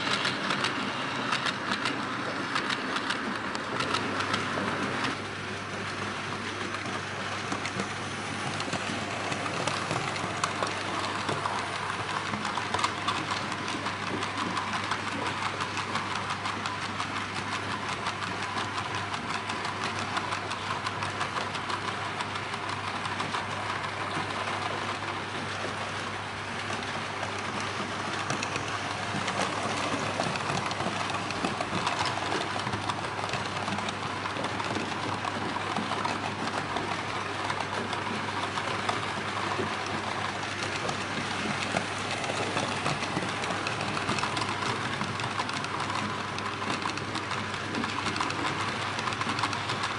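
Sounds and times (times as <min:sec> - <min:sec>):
model train wheels clicking on rails: 0:00.0 - 0:49.9.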